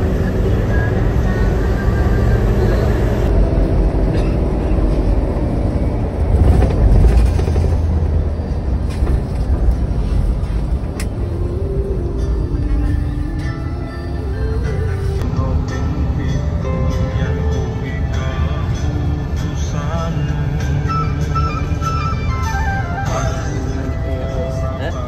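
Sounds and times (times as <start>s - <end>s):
bus diesel engine rumbling: 0.0s - 25.0s
road noise: 0.0s - 25.0s.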